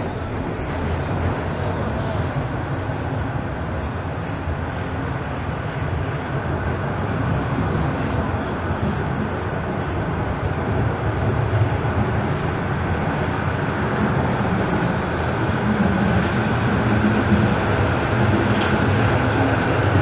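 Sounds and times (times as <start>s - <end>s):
subway wheels rumbling on rail: 0.0s - 20.0s.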